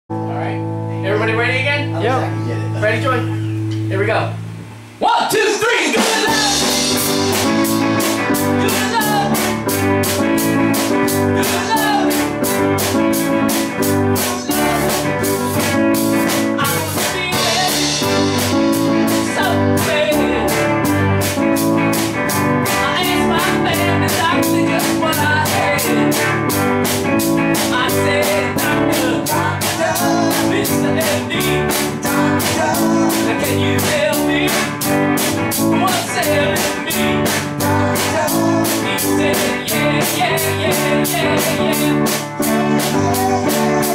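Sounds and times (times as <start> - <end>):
bass line: 0.1 - 43.9
drum kit beat: 1.8 - 43.9
man singing: 5.3 - 21.4, 22.6 - 26.6, 27.2 - 43.9
electric guitar: 5.9 - 43.9.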